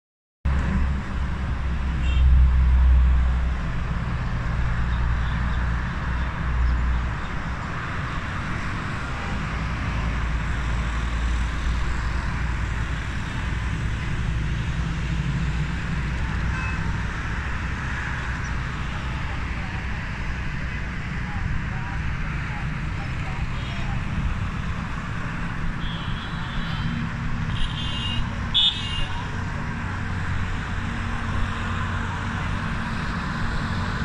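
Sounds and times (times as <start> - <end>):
city road traffic hum: 0.5 - 34.0.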